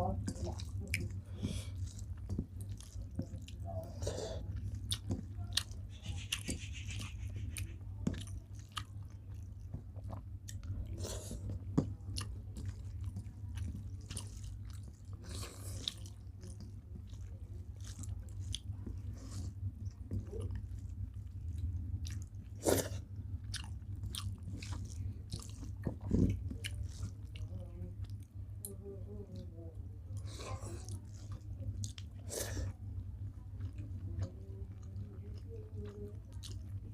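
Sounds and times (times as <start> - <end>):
person chewing food: 0.0 - 36.9
steady low hum: 0.0 - 36.9.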